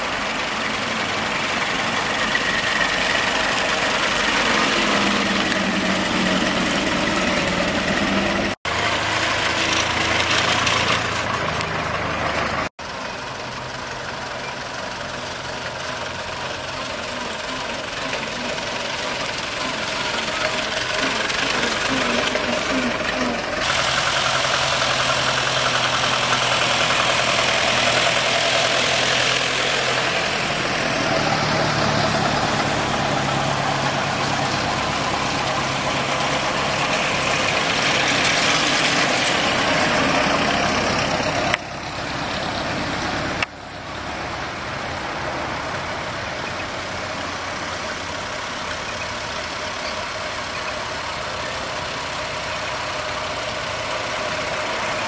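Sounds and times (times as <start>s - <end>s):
old car engines driving past: 0.0s - 55.0s.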